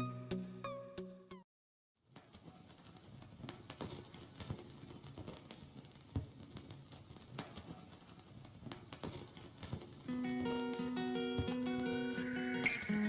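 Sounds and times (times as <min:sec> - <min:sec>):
vinyl crackles and clicks: 0:02.1 - 0:13.0
vinyl record hiss: 0:02.1 - 0:13.0
vinyl record pop: 0:02.5 - 0:13.0.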